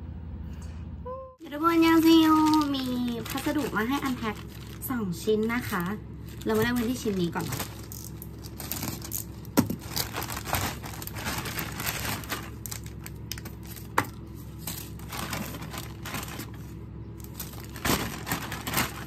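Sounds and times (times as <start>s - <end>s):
plastic mailer bag crinkling: 1.5s - 19.0s.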